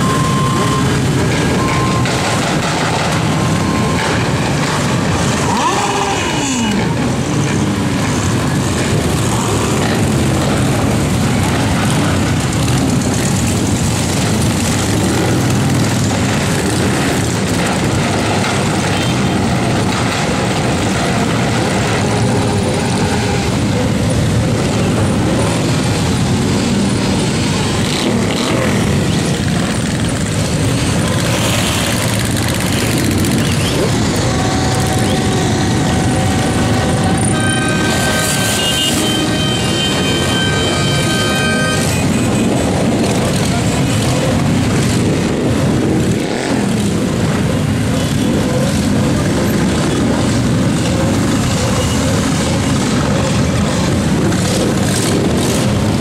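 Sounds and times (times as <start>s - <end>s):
many motorcycle engines: 0.0s - 56.0s
motorcycle engine revving: 0.0s - 56.0s.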